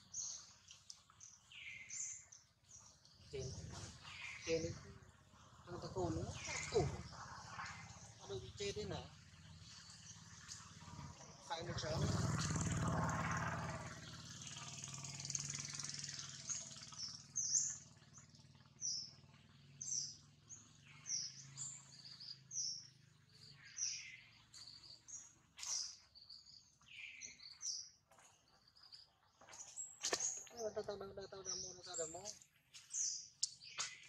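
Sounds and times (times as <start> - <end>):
small bird chirping: 0.0 - 12.5, 13.8 - 34.0.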